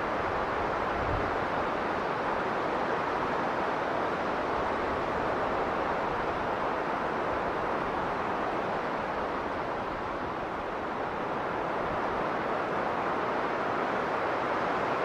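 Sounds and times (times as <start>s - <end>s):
strong blizzard wind: 0.0s - 15.0s.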